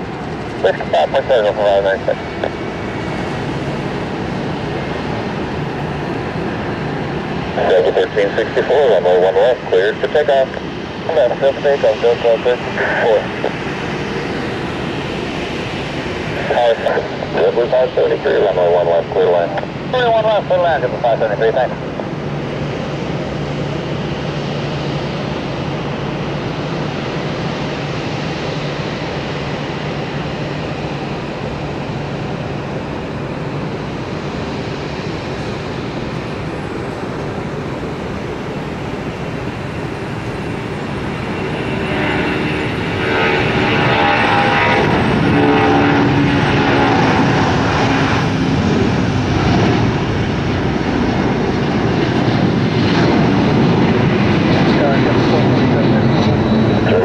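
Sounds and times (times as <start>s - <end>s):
jet engine whine: 0.0s - 57.0s
jet engines rumbling: 0.0s - 57.0s.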